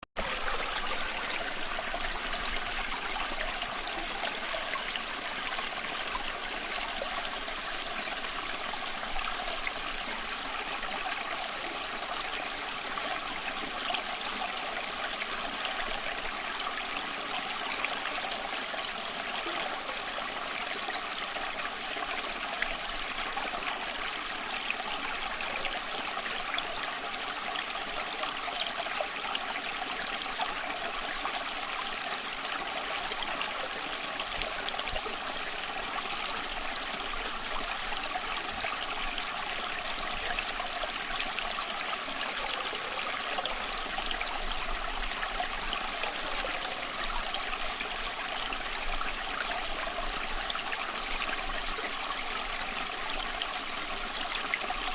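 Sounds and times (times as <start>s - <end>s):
stream babbling over stones: 0.1s - 54.9s.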